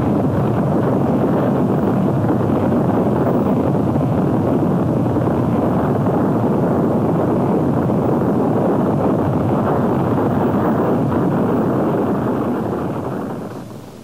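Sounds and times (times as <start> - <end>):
tornado wind roar: 0.0 - 14.0.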